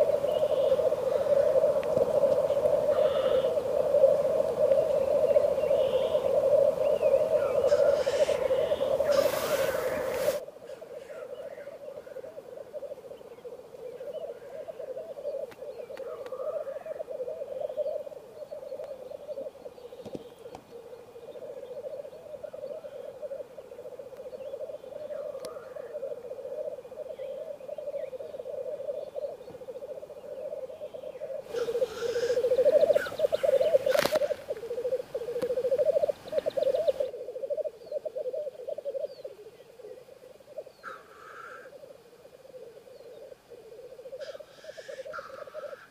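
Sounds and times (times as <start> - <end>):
black grouse bubbling song: 0.0 - 45.9
higher bird calls: 0.0 - 45.9.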